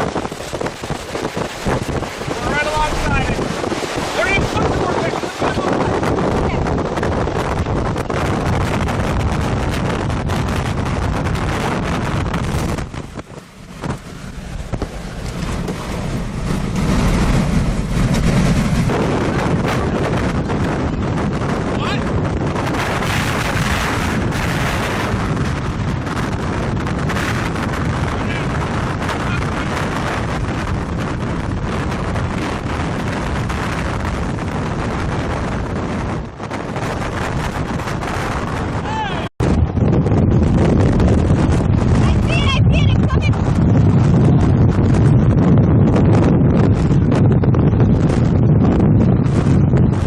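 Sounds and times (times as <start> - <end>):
strong wind on microphone: 0.0 - 50.0.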